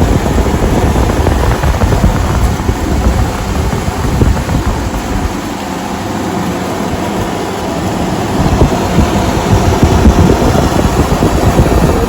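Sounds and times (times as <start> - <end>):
air cooler fan running: 0.0 - 12.0
wind buffeting microphone: 0.0 - 12.0.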